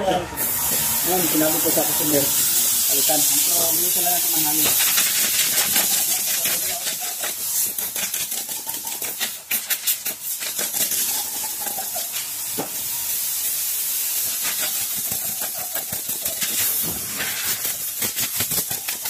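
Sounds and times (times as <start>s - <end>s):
air blow gun hissing: 0.4s - 19.0s.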